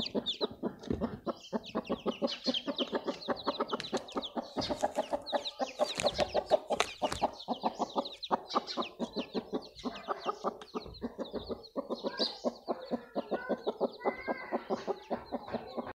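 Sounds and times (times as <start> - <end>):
chicks peeping: 0.0 - 16.0
hen clucking: 0.0 - 16.0.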